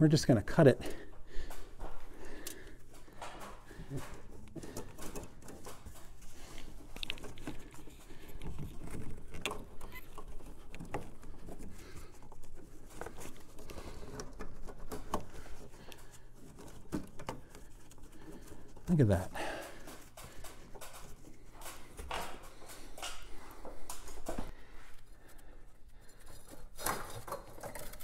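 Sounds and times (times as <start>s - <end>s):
gloved hands rustling and clicking: 0.9s - 28.0s.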